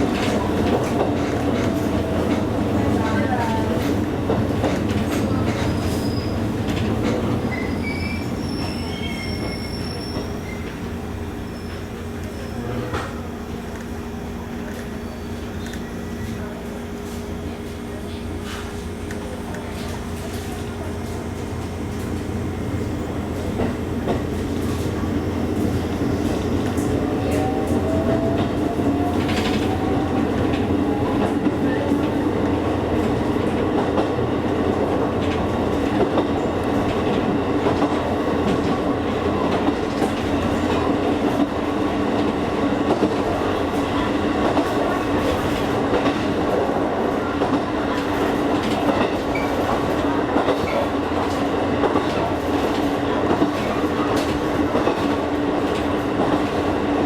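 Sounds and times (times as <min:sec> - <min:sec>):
electric train hum: 0:00.0 - 0:57.0.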